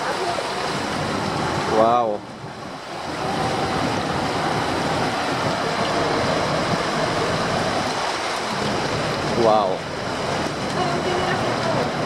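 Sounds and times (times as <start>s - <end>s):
floodwater rushing: 0.0s - 12.0s
truck driving through water: 0.0s - 12.0s.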